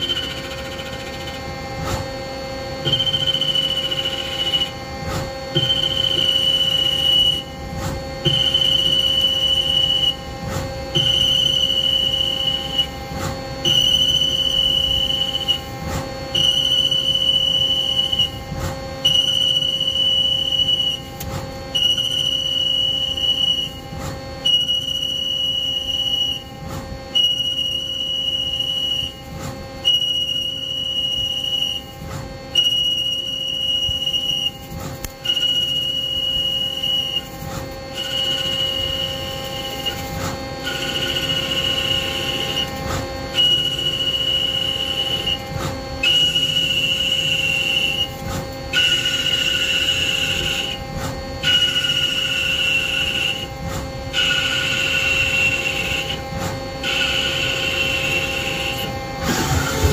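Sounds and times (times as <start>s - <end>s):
lathe threading tool whine: 0.0s - 59.9s
machine hum: 0.0s - 59.9s.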